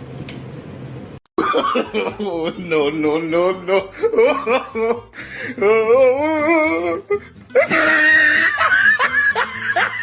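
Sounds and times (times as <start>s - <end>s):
person laughing hard: 1.4s - 10.0s.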